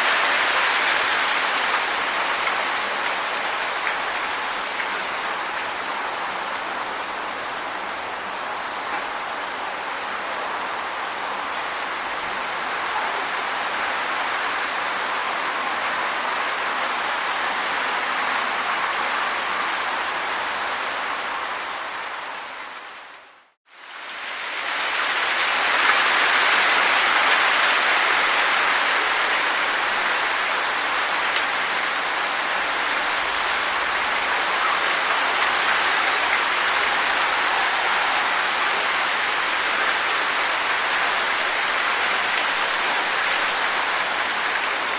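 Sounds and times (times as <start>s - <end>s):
wind rustling tree leaves: 0.0s - 44.9s.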